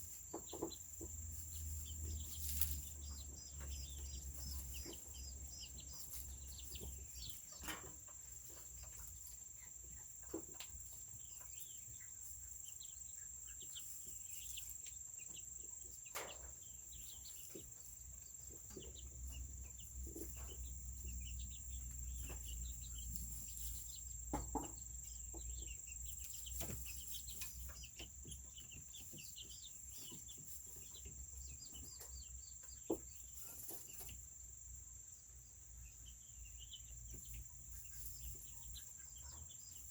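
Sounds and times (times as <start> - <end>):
chickens clucking and peeping: 0.0 - 39.9.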